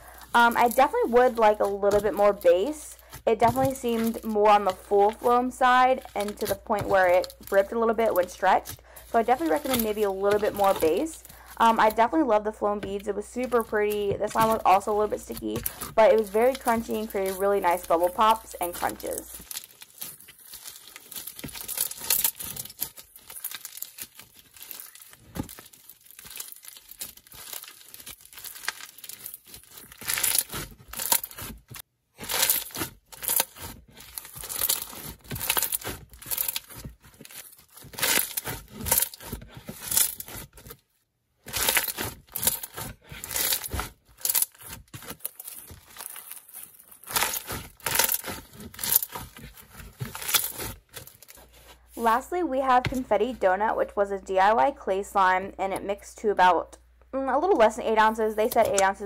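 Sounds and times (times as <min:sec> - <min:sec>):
slime crackling and popping: 0:00.0 - 0:51.7.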